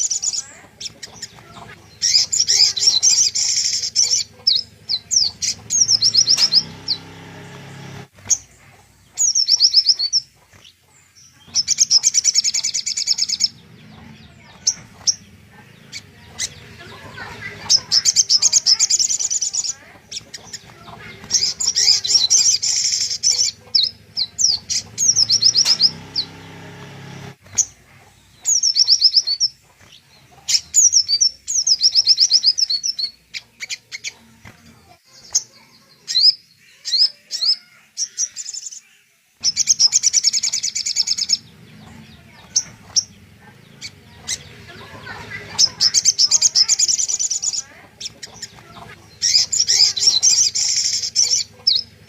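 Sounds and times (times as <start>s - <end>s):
fast high bird trills: 0.0s - 10.8s, 11.4s - 34.2s, 39.4s - 52.0s
songbird singing: 0.0s - 52.0s.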